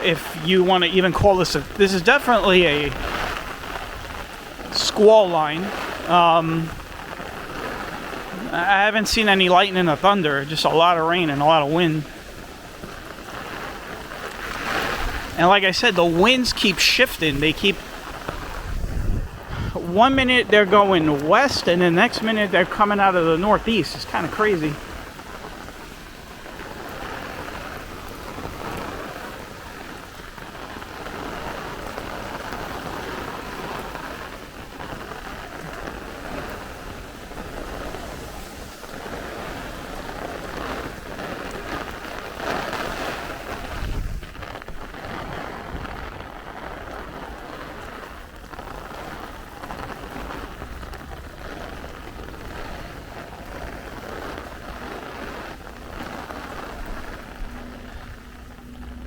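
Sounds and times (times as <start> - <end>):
heavy rain pouring: 0.0 - 59.0
wind rumbling on microphone: 0.0 - 59.0.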